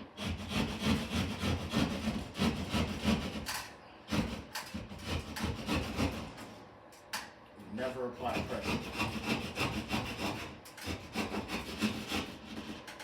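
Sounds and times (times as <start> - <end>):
hand saw cutting drywall: 0.0 - 6.5, 8.2 - 13.0.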